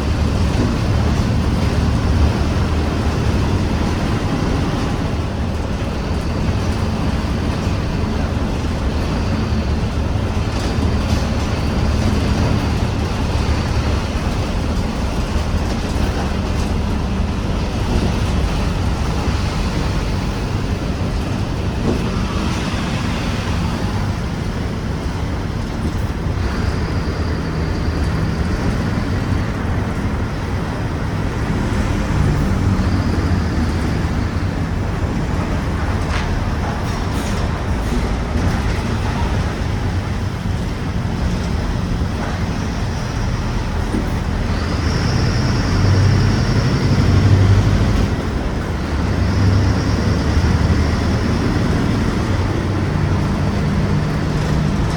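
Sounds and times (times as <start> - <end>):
bus diesel engine running: 0.0 - 54.9
road noise: 0.0 - 54.9.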